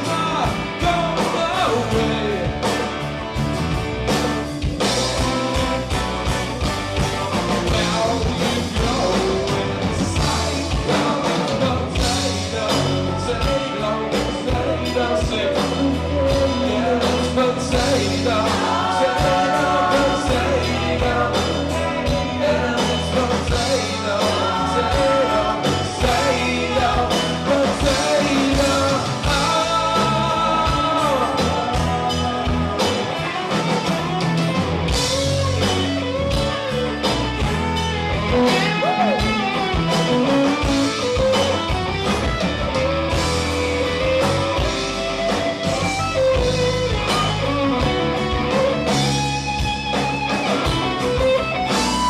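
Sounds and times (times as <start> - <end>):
rock band playing live: 0.0 - 52.0.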